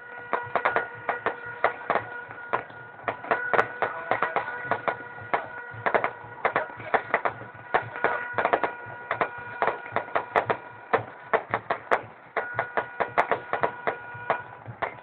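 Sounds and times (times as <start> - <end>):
fireworks bangs and crackles: 0.0 - 15.0
steady held tone: 0.0 - 15.0.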